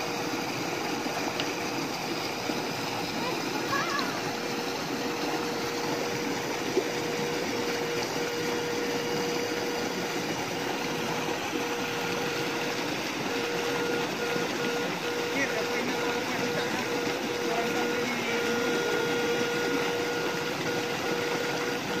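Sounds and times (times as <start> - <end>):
mid-pitched hum: 0.0 - 22.0.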